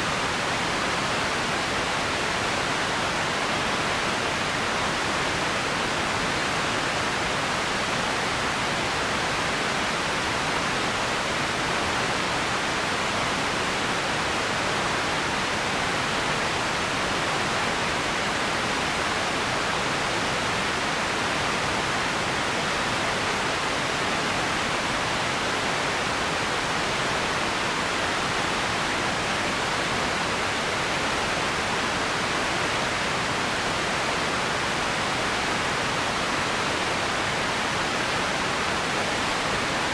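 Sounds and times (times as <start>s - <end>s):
steady ambient hiss: 0.0s - 39.9s.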